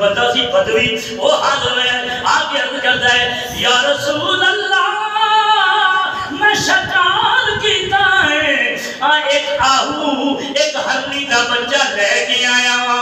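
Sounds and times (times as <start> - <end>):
man chanting verse: 0.0 - 13.0.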